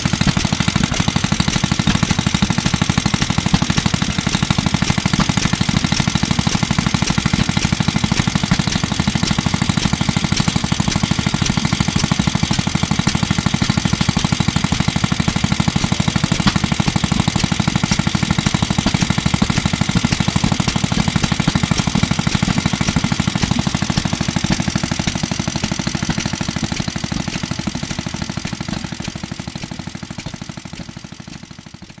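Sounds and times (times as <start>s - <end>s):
single-cylinder engine running: 0.0s - 32.0s.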